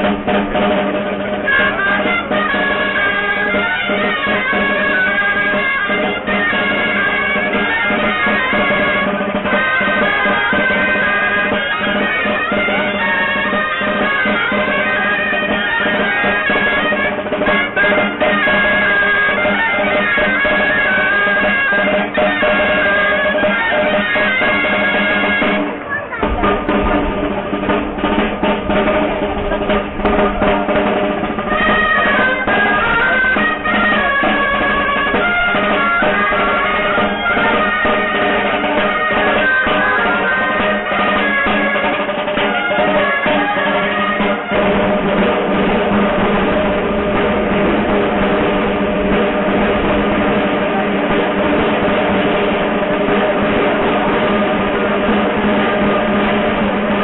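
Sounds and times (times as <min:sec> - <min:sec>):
shawms playing folk melody: 0:00.0 - 0:57.0
side drum rolls: 0:00.0 - 0:57.0.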